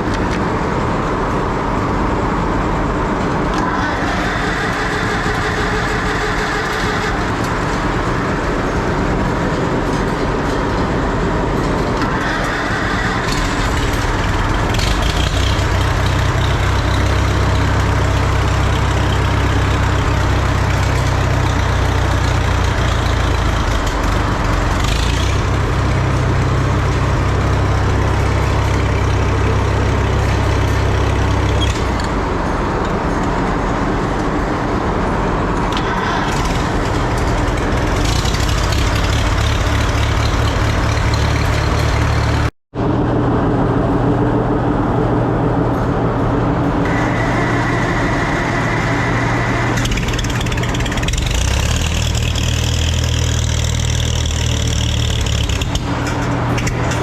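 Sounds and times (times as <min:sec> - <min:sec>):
heavy low rumble: 0:00.0 - 0:51.3
tractor engine running: 0:00.0 - 0:57.0.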